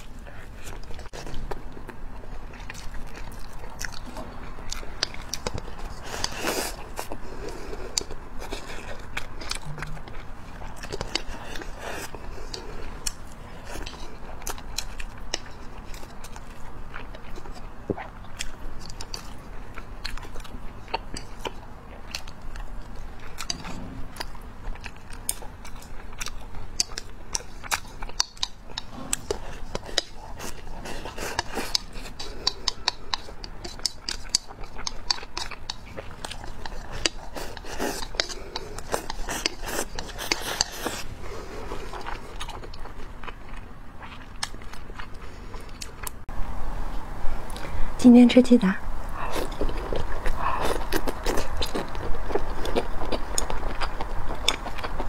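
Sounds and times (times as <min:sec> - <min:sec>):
person chewing rice: 0:00.0 - 0:46.3, 0:49.0 - 0:55.0.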